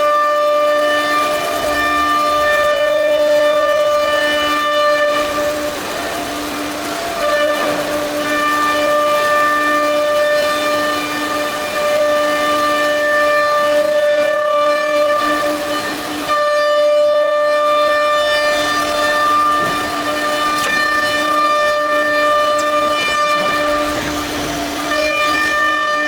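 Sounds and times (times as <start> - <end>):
router spindle high-pitched whine: 0.0 - 26.0.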